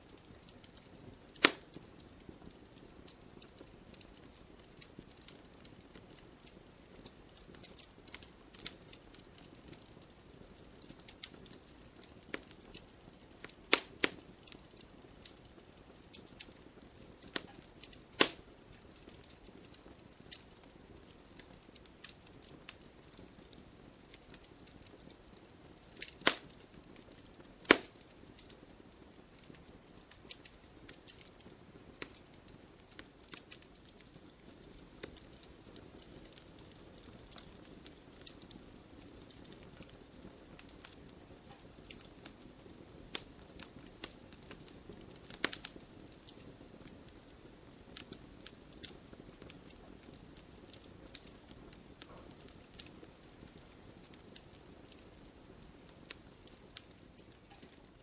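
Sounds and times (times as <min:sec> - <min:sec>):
wood fire crackling: 0:00.0 - 0:58.0
sharp fire pops: 0:00.1 - 0:25.2, 0:25.9 - 0:47.3, 0:47.9 - 0:58.0.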